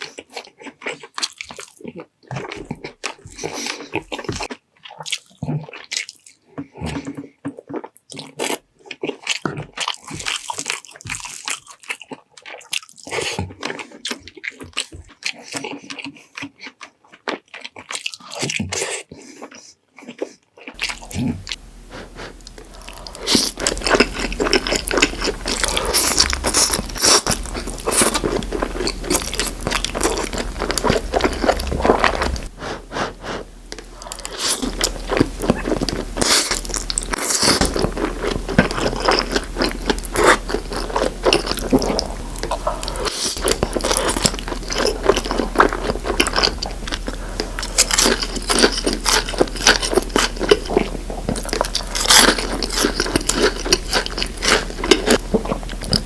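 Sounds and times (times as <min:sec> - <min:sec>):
person crunching and chewing food: 0:00.0 - 0:56.0.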